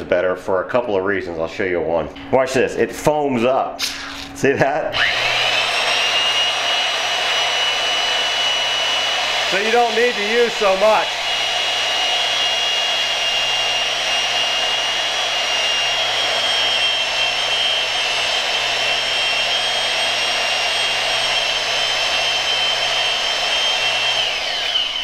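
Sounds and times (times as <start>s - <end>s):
electric motor whining: 4.9s - 25.0s.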